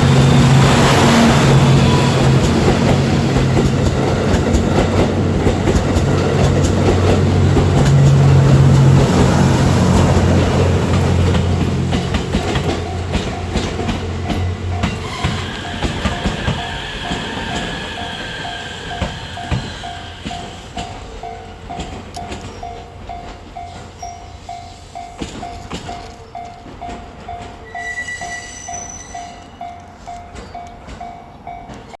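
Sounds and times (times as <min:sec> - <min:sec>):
level-crossing warning bell: 0:00.0 - 0:32.0
train rumble: 0:00.0 - 0:32.0.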